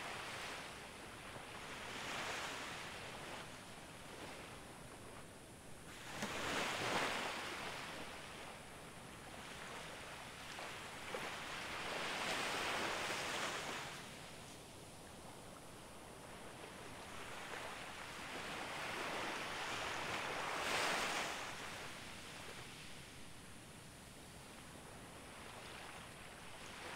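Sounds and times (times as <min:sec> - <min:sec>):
waves washing up a beach: 0:00.0 - 0:26.9.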